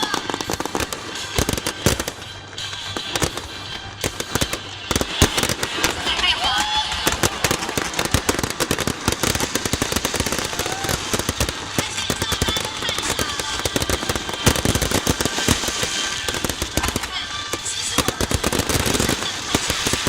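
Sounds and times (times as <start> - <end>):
fireworks crackling bangs: 0.0 - 20.0.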